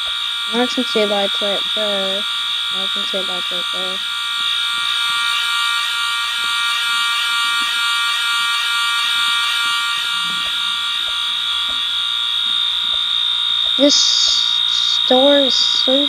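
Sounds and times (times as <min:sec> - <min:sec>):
fire alarm horn steady tone: 0:00.0 - 0:16.0.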